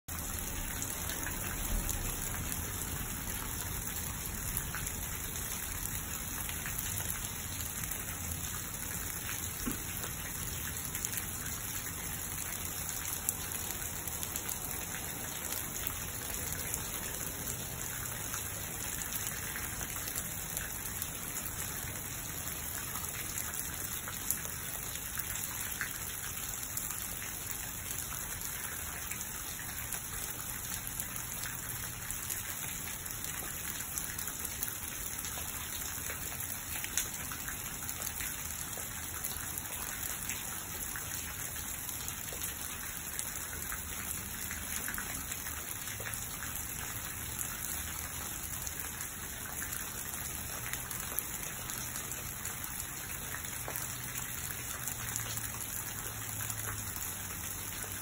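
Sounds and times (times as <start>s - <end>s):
raindrops ticking: 0.1s - 58.0s
steady rain hiss: 0.1s - 58.0s.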